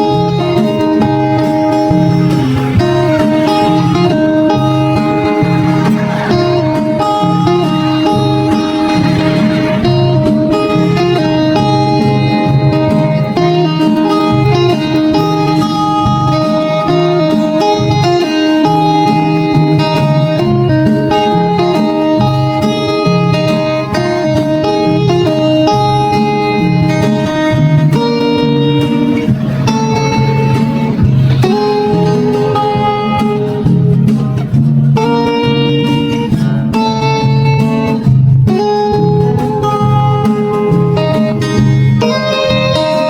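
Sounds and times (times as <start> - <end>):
steady bass line: 0.0 - 24.2, 24.8 - 42.9
plucked guitar melody: 0.0 - 43.0.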